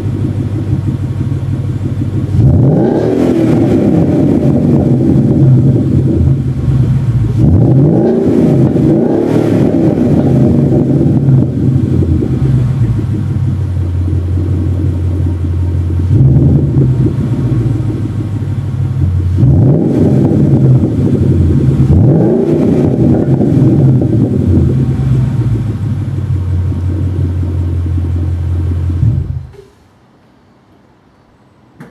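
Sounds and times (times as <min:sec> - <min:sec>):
car engine idling and revving: 0:00.0 - 0:29.7.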